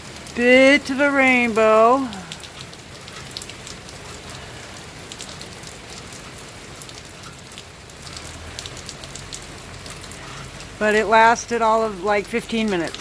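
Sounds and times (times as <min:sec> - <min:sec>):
single raindrops ticking: 0:00.0 - 0:13.0
steady rain falling: 0:00.0 - 0:13.0.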